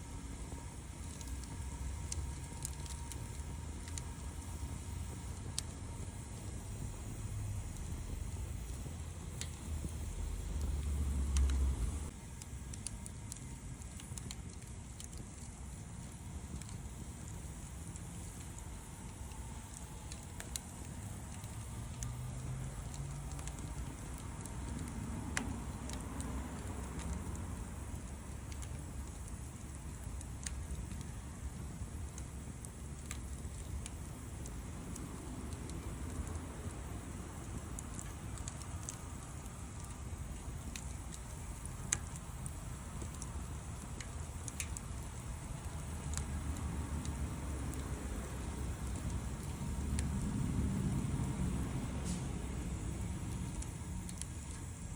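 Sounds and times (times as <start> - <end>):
steady low rumble: 0.0 - 54.9
wood fire crackling: 0.0 - 54.9.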